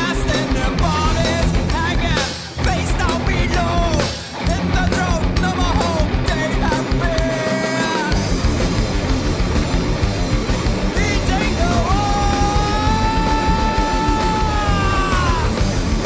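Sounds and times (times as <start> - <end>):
rock band music: 0.0 - 16.0.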